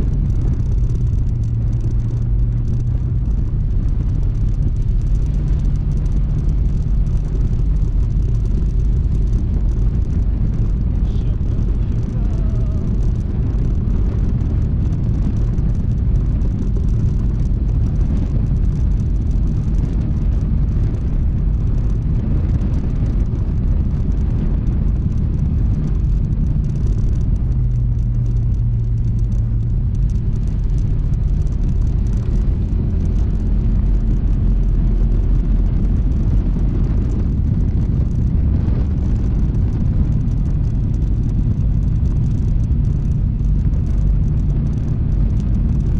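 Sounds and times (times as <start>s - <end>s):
scooter engine running: 0.0s - 45.9s
wind rumble on microphone: 0.0s - 45.9s.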